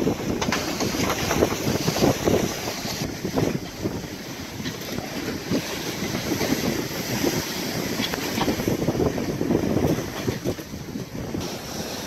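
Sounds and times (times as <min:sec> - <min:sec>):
sea washing along a boat: 0:00.0 - 0:12.0
wind gusting on microphone: 0:00.0 - 0:12.0.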